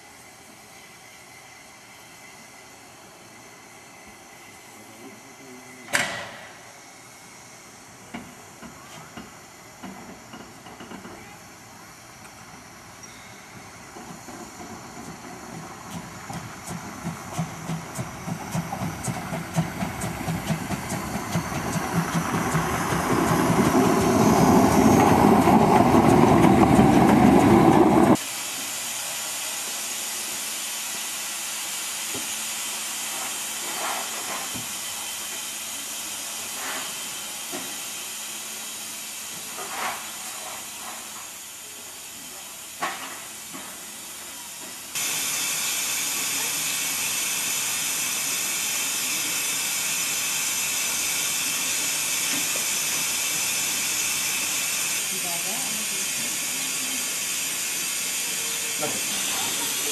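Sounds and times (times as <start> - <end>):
steam hissing: 0.0 - 59.9
steam locomotive chuffing: 0.0 - 59.9.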